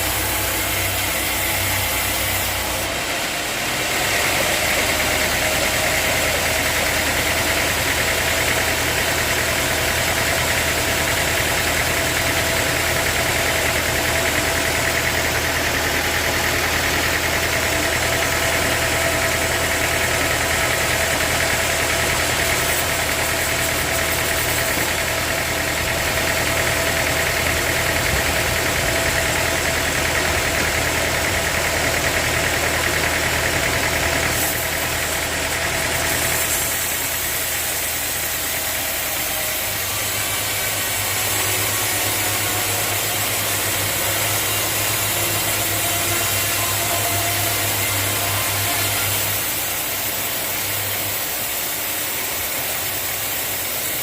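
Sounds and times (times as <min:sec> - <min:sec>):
machinery whine: 0:00.0 - 0:53.8
sawmill machinery drone: 0:00.0 - 0:54.0.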